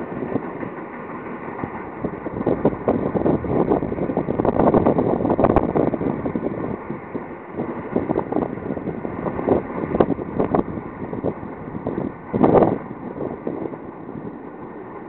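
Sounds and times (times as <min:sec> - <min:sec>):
electric train passing: 0:00.0 - 0:15.0
wind buffeting microphone: 0:00.0 - 0:15.0.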